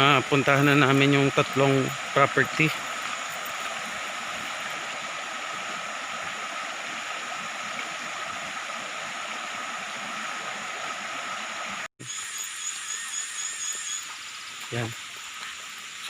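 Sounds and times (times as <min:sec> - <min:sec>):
stream flowing: 0:00.0 - 0:11.9, 0:12.9 - 0:16.0.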